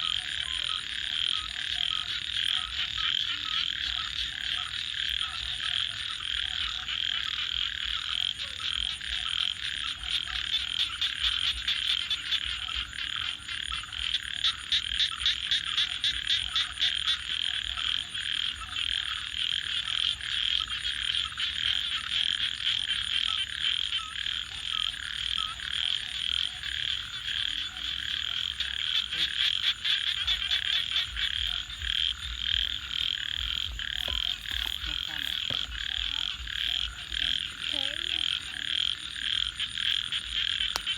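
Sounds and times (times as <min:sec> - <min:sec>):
chorus of frogs calling: 0:00.0 - 0:40.9
rapid pulsed frog calls: 0:00.0 - 0:40.9.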